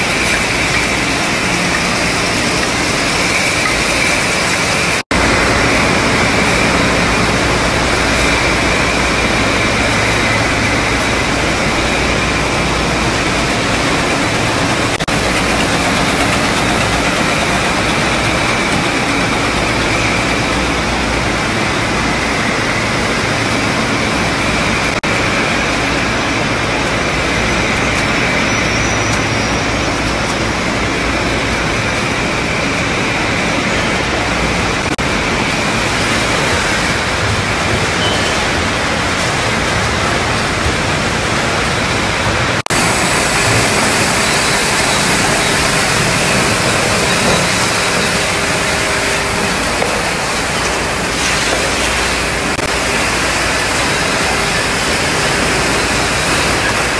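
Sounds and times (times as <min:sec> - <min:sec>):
factory machinery running: 0:00.0 - 0:56.9.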